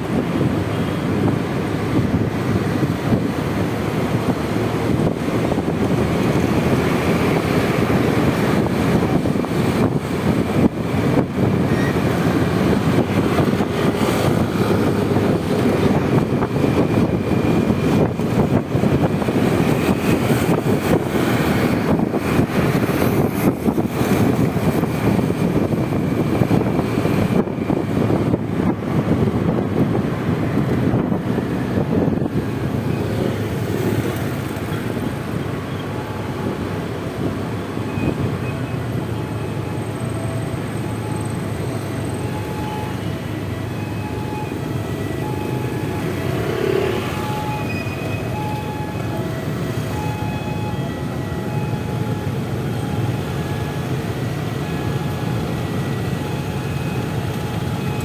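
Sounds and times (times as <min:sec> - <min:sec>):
traffic: 0:00.0 - 0:58.0
wind and road noise: 0:00.0 - 0:58.0.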